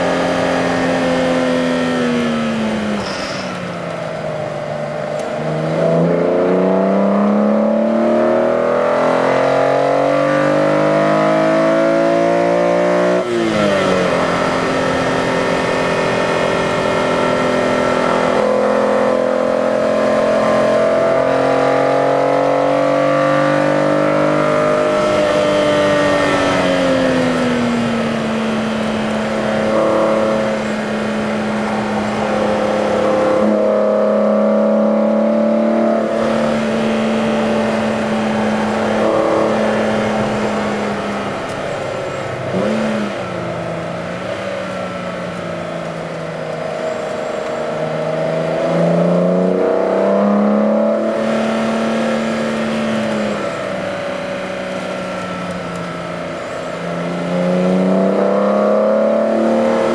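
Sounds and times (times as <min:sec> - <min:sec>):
car engine revving from inside cabin: 0:05.2 - 0:41.6, 0:45.3 - 0:53.5, 0:54.1 - 0:59.9.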